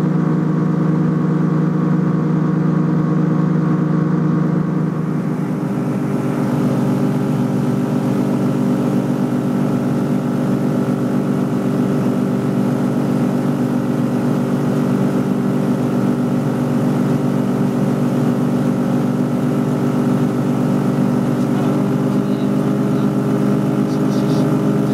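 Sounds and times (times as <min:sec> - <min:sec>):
aircraft engine and propeller drone: 0:00.0 - 0:24.9.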